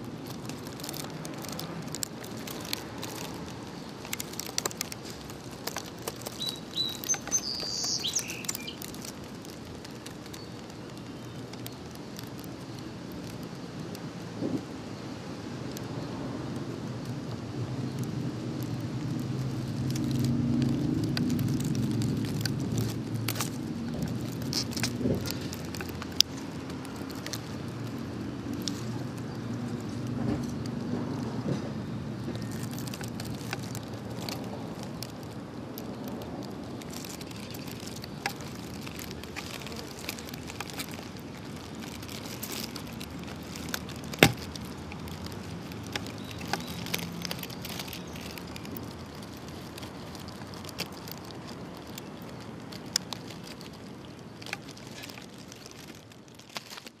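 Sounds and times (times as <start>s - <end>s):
outdoor background hiss: 0.0s - 55.5s.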